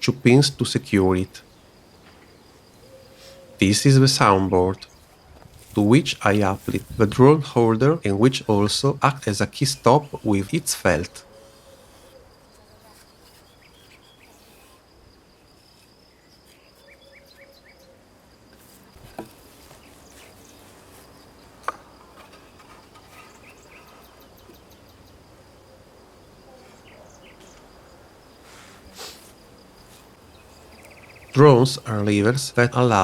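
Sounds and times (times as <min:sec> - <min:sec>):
faint crickets chirping: 0:00.0 - 0:33.0.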